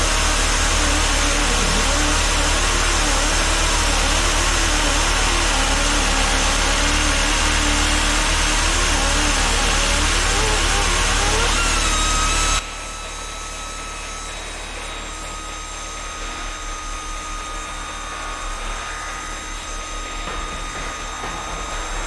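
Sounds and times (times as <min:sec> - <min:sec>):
pneumatic angle grinder whining: 0:00.0 - 0:22.0.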